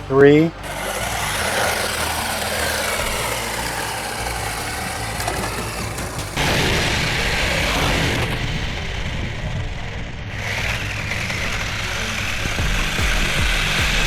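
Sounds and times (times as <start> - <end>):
rc cars electric motors: 0.0 - 14.0
tyres on pavement: 0.0 - 14.0.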